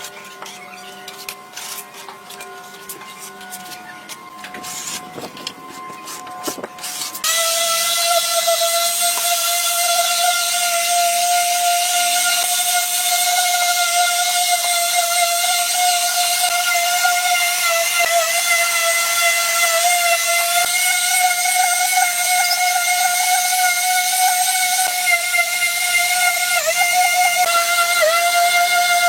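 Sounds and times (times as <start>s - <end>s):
electric power tool whining: 0.0s - 29.0s.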